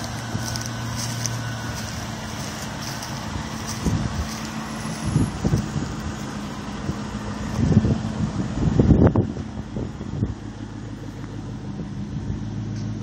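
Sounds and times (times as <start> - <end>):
wind buffeting microphone: 0.0 - 12.0
car engine idling: 0.0 - 13.0.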